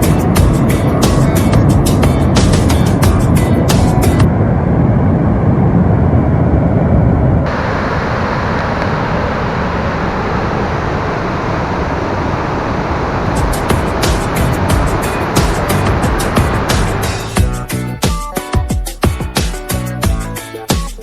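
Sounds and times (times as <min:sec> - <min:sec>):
vehicle engine and tyres rumbling: 0:00.0 - 0:18.1
wind noise: 0:00.0 - 0:20.3.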